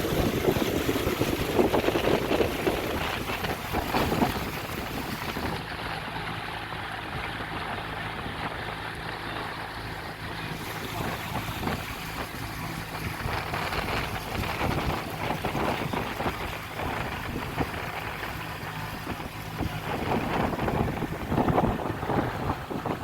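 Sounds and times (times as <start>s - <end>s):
boat engine running: 0.0s - 23.0s
water splashing along hull: 0.0s - 23.0s
wind buffeting microphone: 0.0s - 23.0s.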